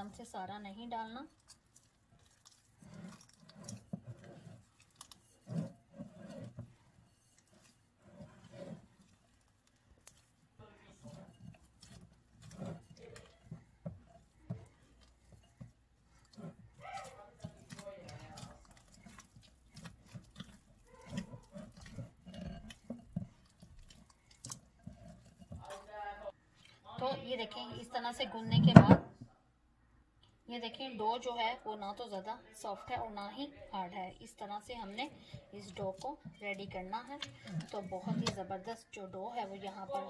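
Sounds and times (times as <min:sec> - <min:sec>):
hands kneading dough: 0:00.0 - 0:28.9, 0:31.4 - 0:40.0.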